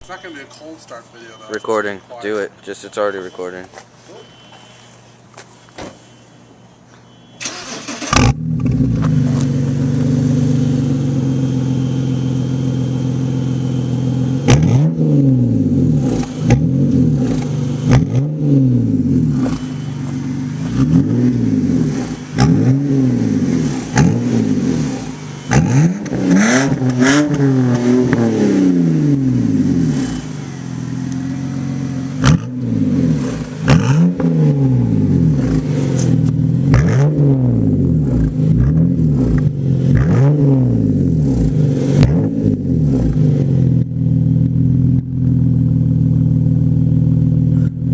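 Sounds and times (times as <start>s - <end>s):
car engine revving: 7.4s - 47.9s.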